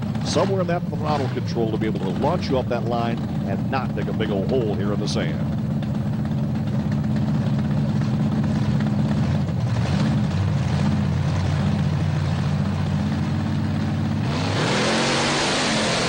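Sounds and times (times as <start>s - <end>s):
monster truck engines revving: 0.0s - 6.3s, 8.2s - 16.0s.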